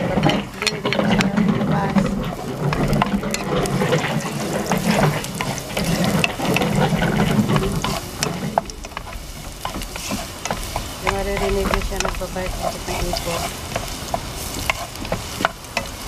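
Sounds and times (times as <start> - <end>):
garlic sizzling in hot oil: 0.0 - 16.0
spatula scraping a pan: 0.0 - 16.0.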